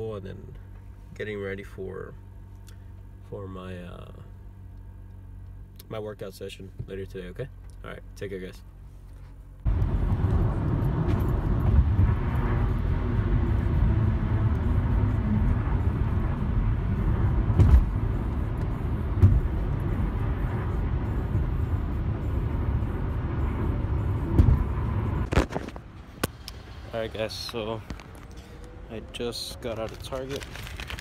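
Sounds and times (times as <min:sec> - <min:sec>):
car interior road rumble: 0:04.3 - 0:31.0.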